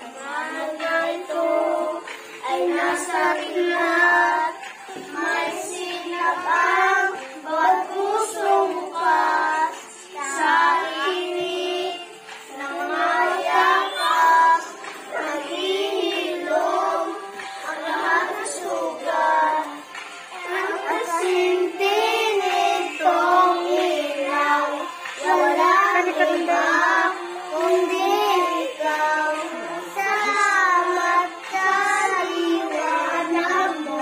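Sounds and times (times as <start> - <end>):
children singing together: 0.0 - 34.0.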